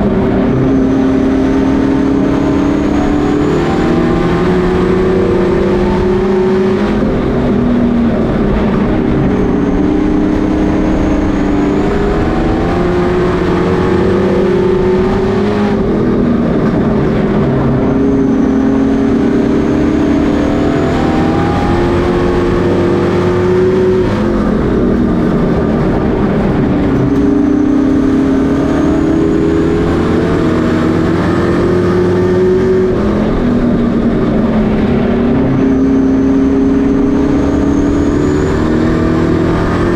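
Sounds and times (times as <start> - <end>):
race truck engines running: 0.0 - 39.9.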